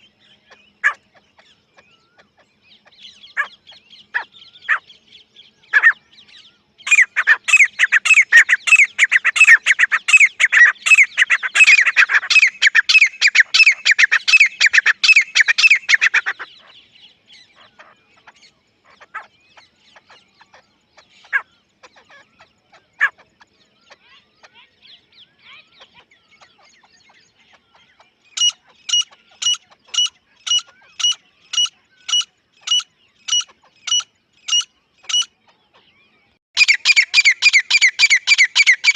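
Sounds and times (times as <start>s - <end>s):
francolin calling: 0.0s - 38.9s.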